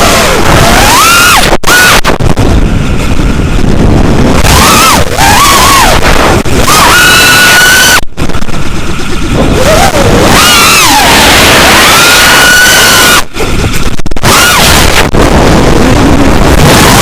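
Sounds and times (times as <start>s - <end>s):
electric motor and propeller whining: 0.0s - 17.0s
wind buffeting microphone: 0.0s - 17.0s.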